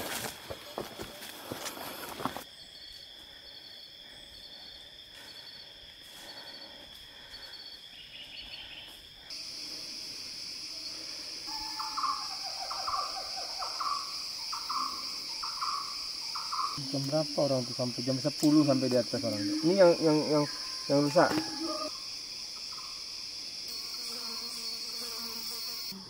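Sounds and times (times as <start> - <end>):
insect chirping trills: 0.0 - 26.0
insects high-pitched whine: 0.0 - 26.0.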